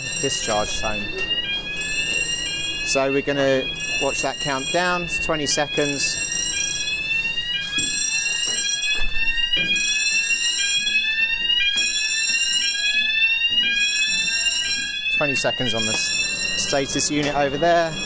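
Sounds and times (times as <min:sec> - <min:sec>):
fire alarm bells ringing: 0:00.0 - 0:18.0
fire alarm rising sweep tone: 0:00.0 - 0:18.0.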